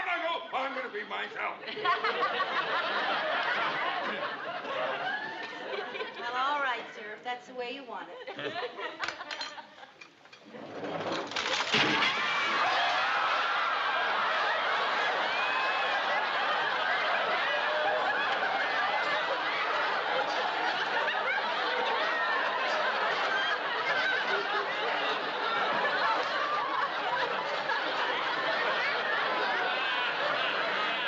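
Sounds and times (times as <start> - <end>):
large crowd laughing: 1.6 - 6.8, 8.1 - 10.1, 11.3 - 31.0.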